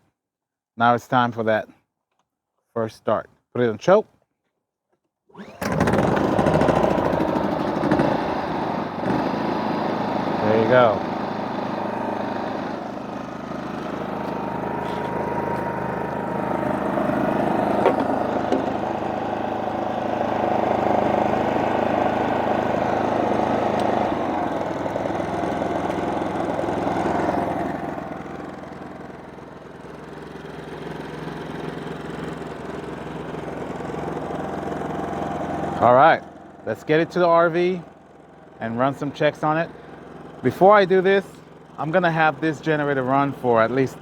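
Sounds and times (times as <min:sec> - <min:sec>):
generator engine running: 0:05.4 - 0:44.0.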